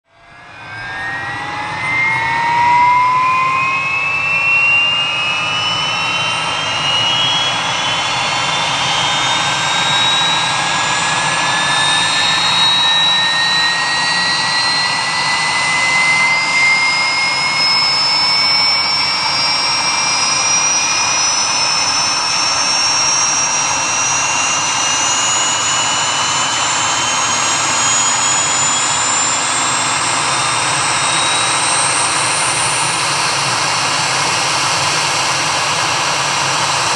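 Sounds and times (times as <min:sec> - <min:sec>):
helicopter turbine engines starting up: 0:00.1 - 0:36.9.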